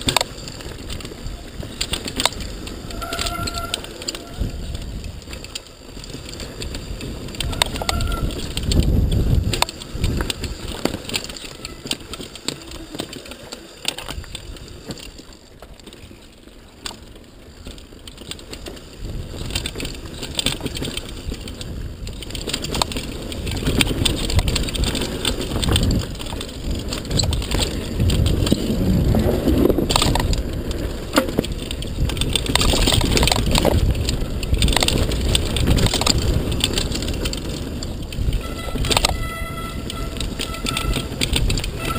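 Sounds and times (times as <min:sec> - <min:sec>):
bike knocking and rattling: 0:00.0 - 0:41.9
tyres rumbling over dirt: 0:00.0 - 0:41.9.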